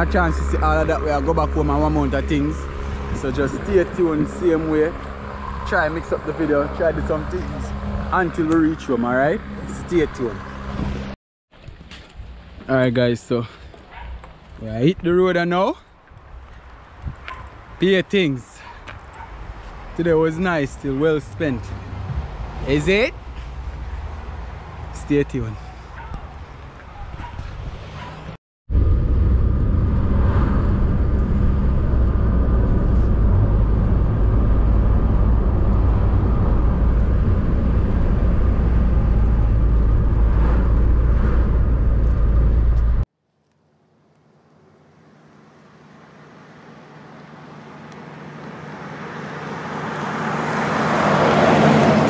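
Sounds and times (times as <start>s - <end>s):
car engine and road noise: 0.0s - 52.0s.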